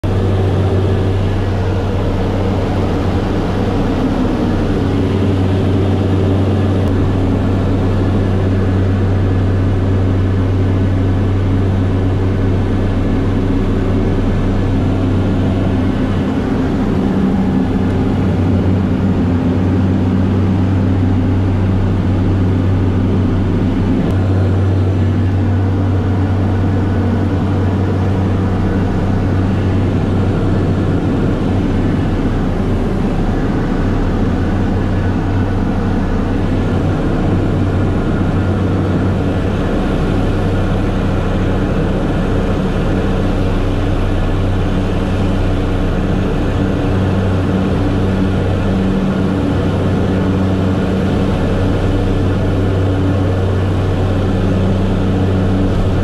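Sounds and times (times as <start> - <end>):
turboprop engines droning in flight: 0.0 - 56.0.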